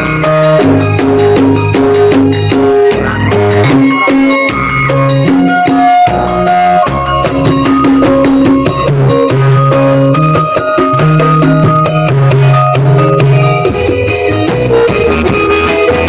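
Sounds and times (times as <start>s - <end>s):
loud music over sound system: 0.0s - 16.0s.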